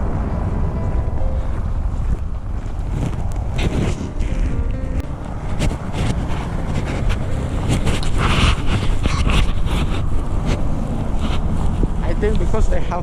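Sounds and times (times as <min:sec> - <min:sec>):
wind buffeting microphone: 0:00.0 - 0:13.0
footsteps crunching through snow: 0:00.9 - 0:12.9.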